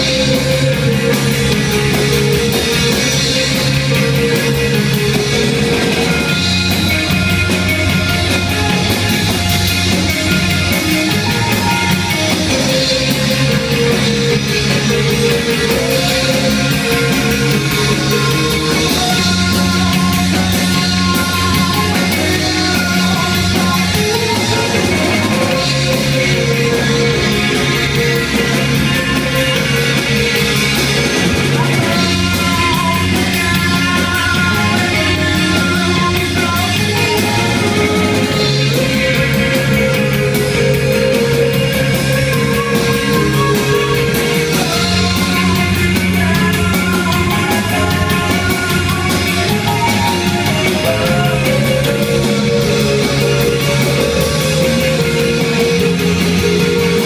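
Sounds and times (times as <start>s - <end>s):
bass guitar: 0.0s - 57.0s
drums: 0.0s - 57.0s
electric guitars: 0.0s - 57.0s
keyboard: 0.0s - 57.0s.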